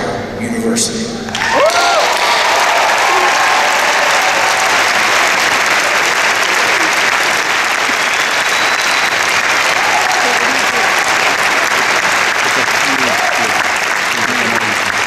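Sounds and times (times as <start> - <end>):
large crowd applauding: 1.3 - 15.0.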